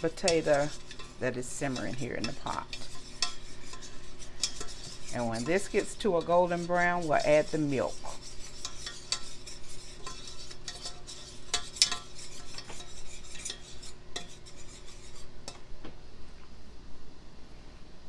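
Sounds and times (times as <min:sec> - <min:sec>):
whisk scraping a metal saucepan: 0:00.0 - 0:15.6.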